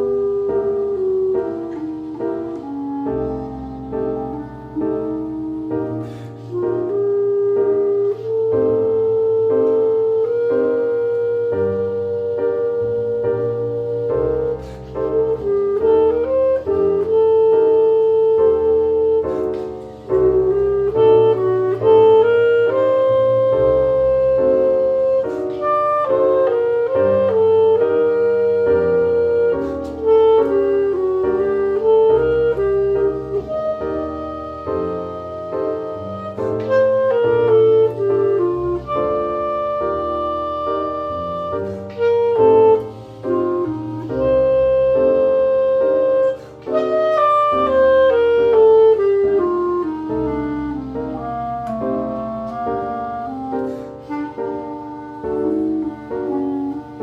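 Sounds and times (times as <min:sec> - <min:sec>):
clarinet melody: 0:00.0 - 0:57.0
piano accompaniment: 0:00.0 - 0:57.0.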